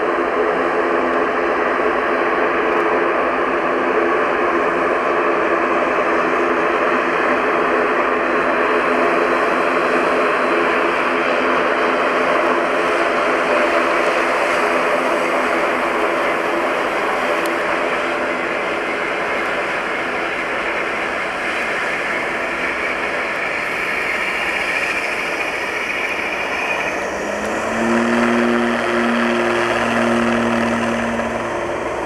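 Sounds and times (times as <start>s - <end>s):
turboprop engines running: 0.0s - 32.0s.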